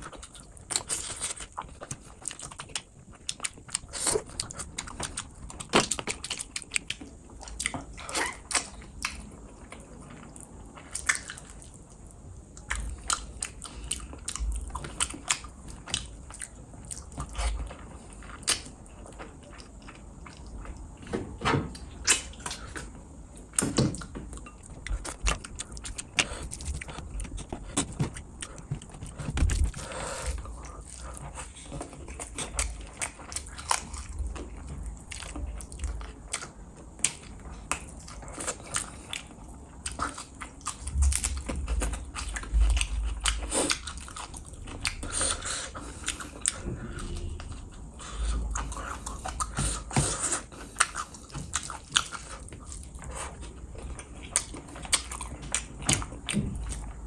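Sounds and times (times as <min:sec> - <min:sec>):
chewing and mouth smacks: 0:00.0 - 0:21.1, 0:21.7 - 0:57.0.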